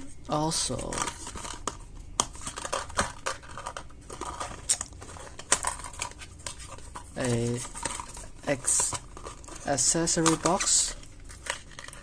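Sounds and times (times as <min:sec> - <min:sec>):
packaging crinkling: 0:00.7 - 0:12.0.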